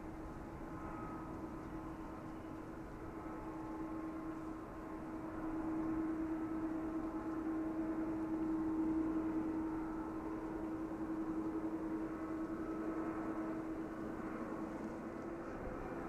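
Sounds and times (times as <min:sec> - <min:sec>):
high whine: 0:00.0 - 0:16.0
jet engines humming: 0:00.0 - 0:16.0.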